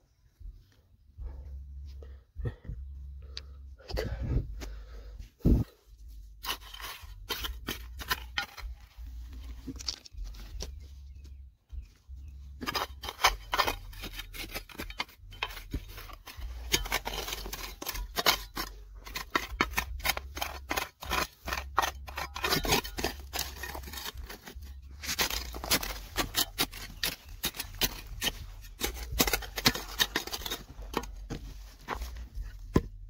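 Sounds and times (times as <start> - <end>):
digging tool scraping stony ground: 5.4 - 11.3, 12.2 - 33.0.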